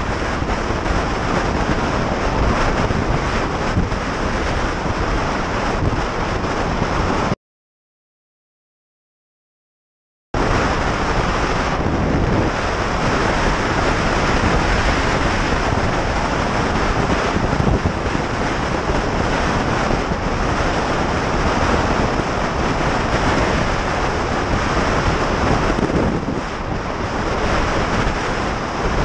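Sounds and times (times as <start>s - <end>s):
wind rushing over microphone: 0.0s - 7.4s, 10.4s - 29.0s.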